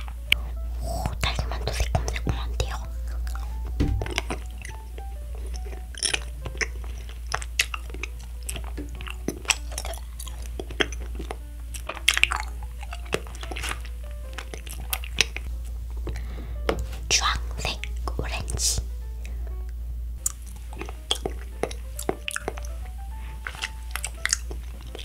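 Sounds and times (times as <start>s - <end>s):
soft background music: 0.0s - 25.0s
wax candy chewing: 0.0s - 25.0s.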